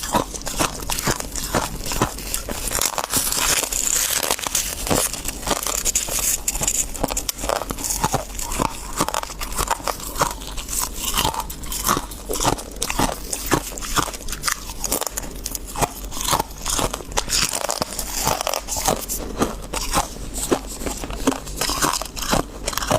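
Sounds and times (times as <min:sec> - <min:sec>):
frost crunching being chewed: 0:00.0 - 0:22.9.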